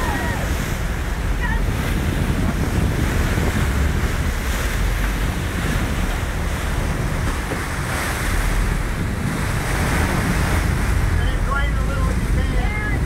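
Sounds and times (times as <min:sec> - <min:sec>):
boat wake rushing: 0:00.0 - 0:13.0
wind buffeting microphone: 0:00.0 - 0:13.0.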